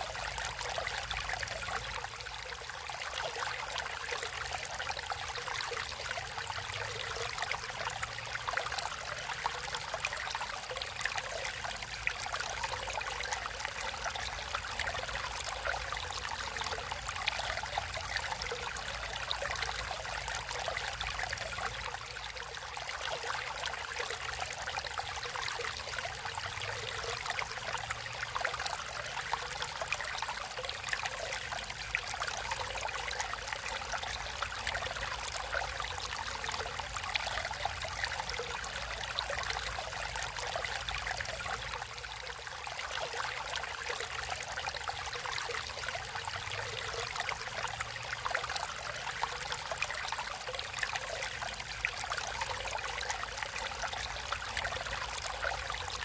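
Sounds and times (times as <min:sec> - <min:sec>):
stream running and trickling: 0:00.0 - 0:56.0.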